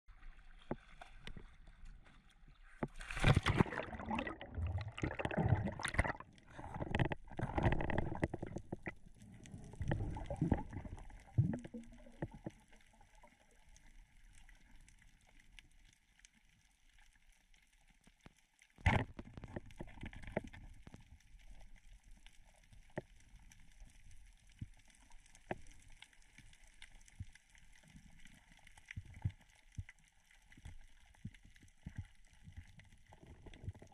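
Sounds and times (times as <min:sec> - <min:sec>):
water sloshing and gurgling: 0:00.1 - 0:16.0, 0:18.8 - 0:33.9.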